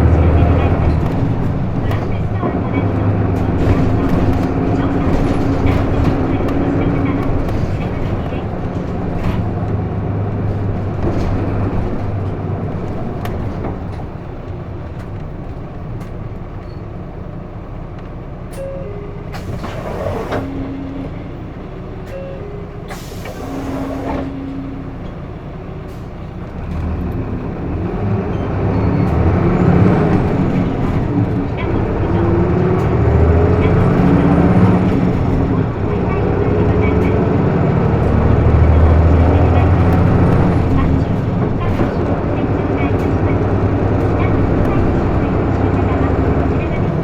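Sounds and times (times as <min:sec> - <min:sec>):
bus diesel engine: 0:00.0 - 0:47.0.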